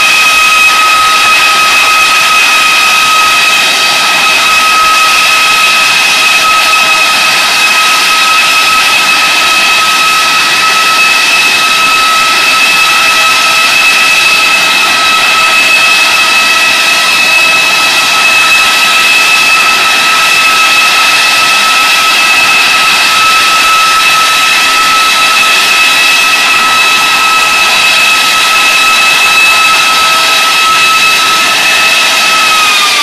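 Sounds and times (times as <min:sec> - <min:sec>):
jet engine rush of air: 0:00.0 - 0:33.0
two-note engine whine: 0:00.0 - 0:33.0.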